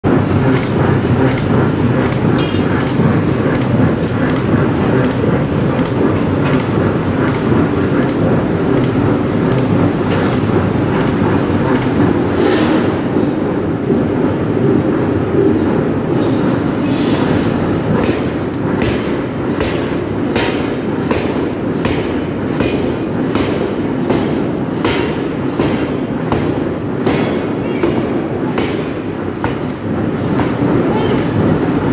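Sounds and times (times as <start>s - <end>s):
heavy machinery running: 0.0s - 31.9s.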